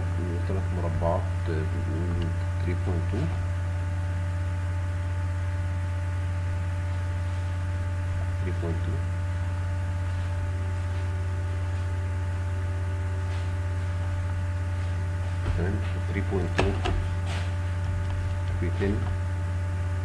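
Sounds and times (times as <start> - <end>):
low mains hum: 0.0 - 20.0.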